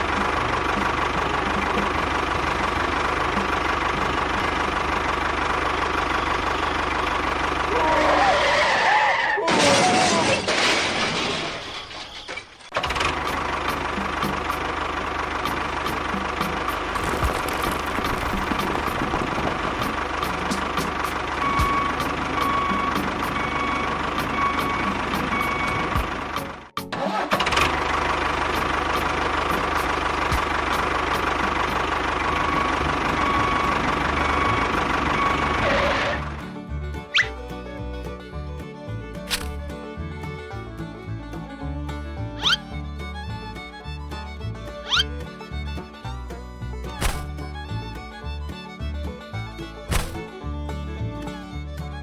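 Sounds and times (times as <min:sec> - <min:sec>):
engine idling: 0:00.0 - 0:09.2, 0:12.7 - 0:52.0.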